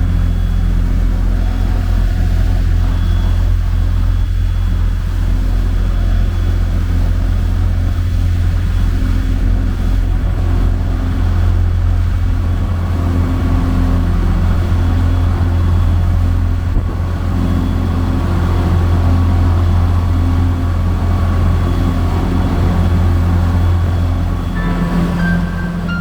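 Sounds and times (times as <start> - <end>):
boat diesel engine drone: 0.0 - 26.0.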